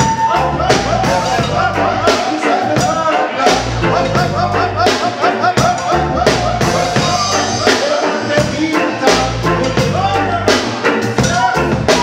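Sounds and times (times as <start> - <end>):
bass line: 0.0 - 12.0
drum kit hits: 0.0 - 12.0
person singing: 0.0 - 12.0
reggae band playing: 0.0 - 12.0.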